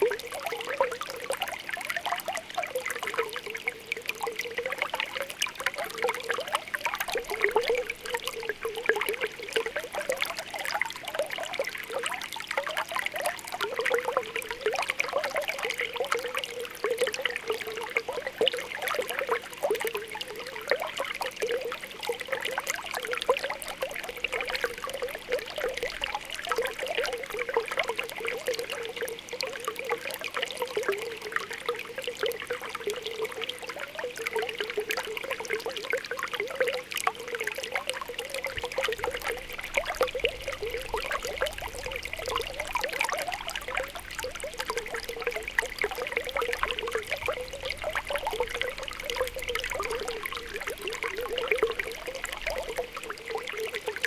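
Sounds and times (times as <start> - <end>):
spring water bubbling: 0.0 - 54.0
water trickling: 0.0 - 54.0.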